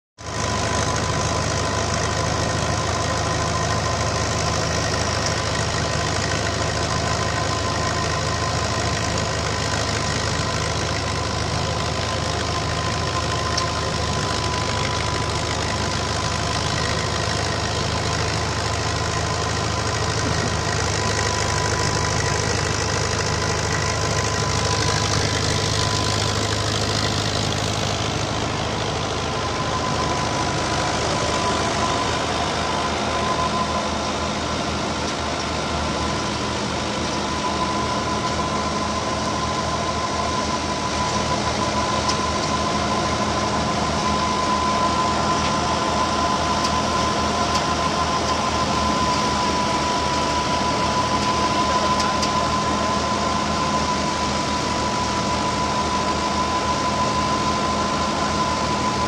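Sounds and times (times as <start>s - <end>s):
thresher drum and blower whine: 0.2s - 59.0s
tractor engine running under load: 0.2s - 59.0s.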